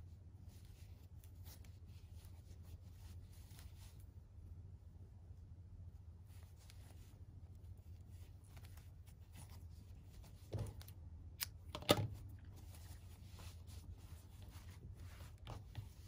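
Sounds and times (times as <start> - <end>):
yarn rustling: 0.1 - 11.2, 12.1 - 16.0.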